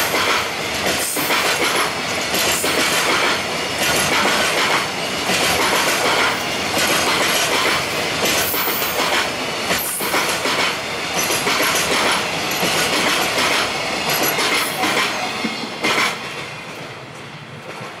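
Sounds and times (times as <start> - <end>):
train wheels clickety-clack: 0.0 - 18.0.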